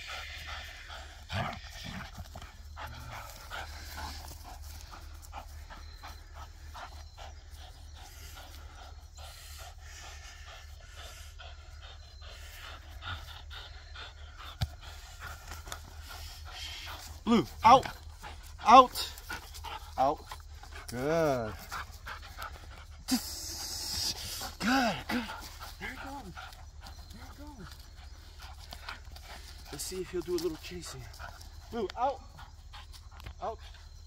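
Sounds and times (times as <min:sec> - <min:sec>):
dog panting: 0:00.0 - 0:34.0.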